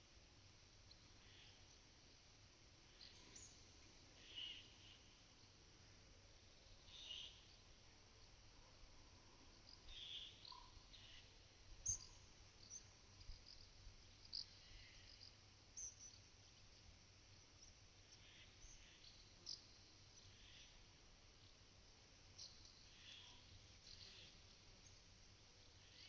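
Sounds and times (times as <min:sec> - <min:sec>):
small birds chirping: 0:02.8 - 0:05.5, 0:06.6 - 0:26.0.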